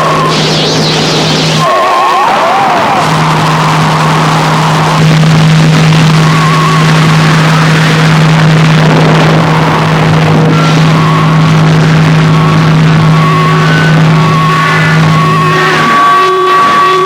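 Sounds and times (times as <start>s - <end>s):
dense distorted noise: 0.0s - 17.0s
steady low drone: 0.0s - 17.0s.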